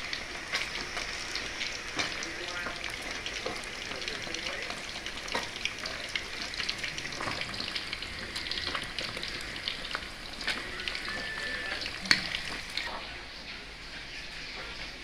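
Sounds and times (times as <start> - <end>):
fish sizzling in hot oil: 0.0 - 13.0
oil popping and crackling: 0.0 - 13.0.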